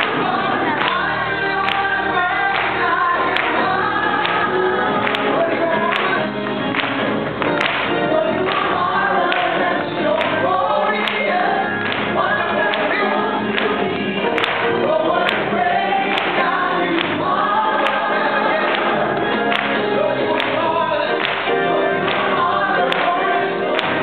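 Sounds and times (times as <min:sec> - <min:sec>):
group singing worship song: 0:00.0 - 0:24.0.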